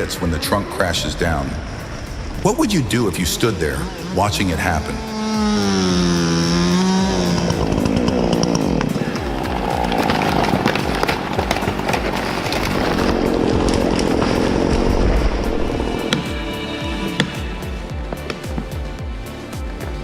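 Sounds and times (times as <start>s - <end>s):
chainsaw cutting wood: 3.8s - 20.0s.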